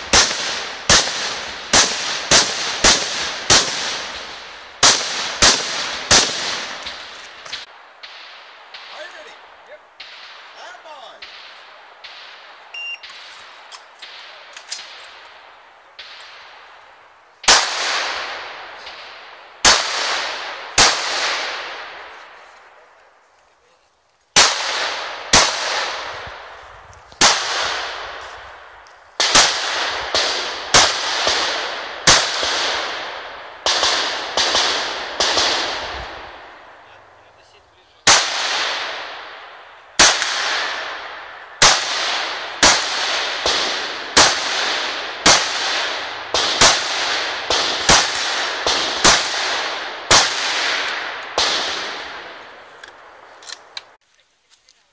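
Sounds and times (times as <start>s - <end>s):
echoing rifle shots: 0.0s - 16.7s, 17.4s - 22.4s, 24.4s - 26.6s, 27.2s - 37.2s, 38.0s - 54.0s.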